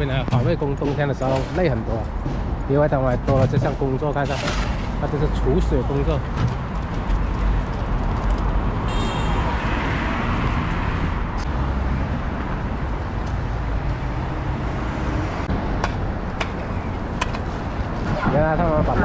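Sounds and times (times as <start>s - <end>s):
rumble of passing vehicles: 0.0s - 19.0s.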